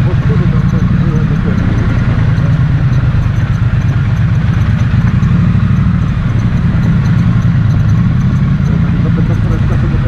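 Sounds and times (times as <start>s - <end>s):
motorcycle engine and road rumble: 0.0s - 10.0s.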